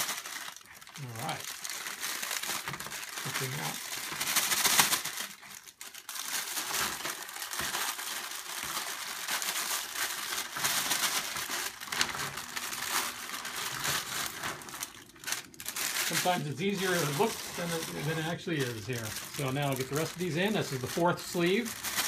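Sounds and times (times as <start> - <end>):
crackers poured into bag: 0.0 - 22.0
plastic bags crinkling: 0.0 - 22.0.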